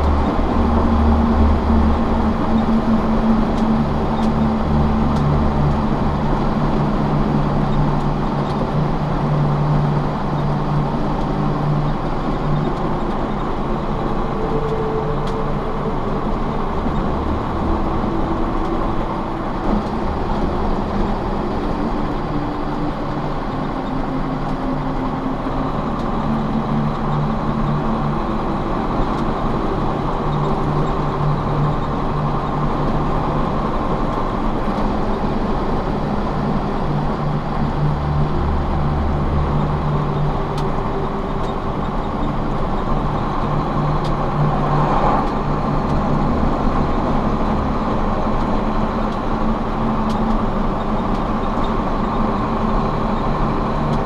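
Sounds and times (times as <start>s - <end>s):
engine drone: 0.0s - 54.0s
tyre and road noise: 0.0s - 54.0s.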